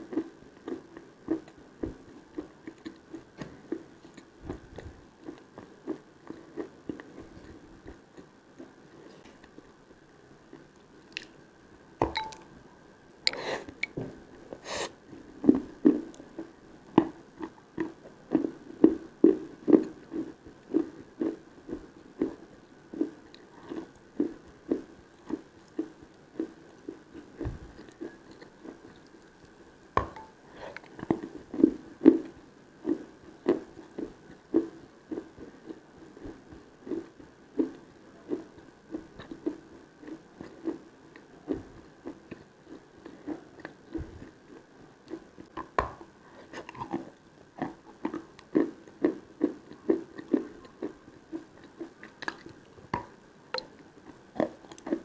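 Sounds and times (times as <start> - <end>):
rhythmic chewing: 0.0 - 12.5, 13.2 - 55.0.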